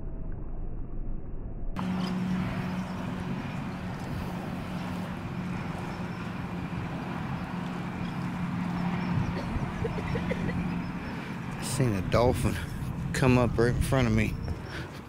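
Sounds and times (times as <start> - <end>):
low engine hum: 0.0 - 15.0
noisy wash: 1.8 - 15.0.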